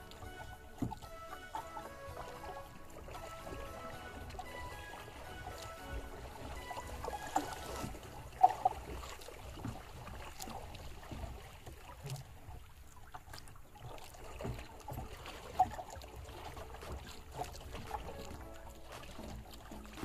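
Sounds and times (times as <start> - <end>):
water lapping against boat hull: 0.0 - 20.0.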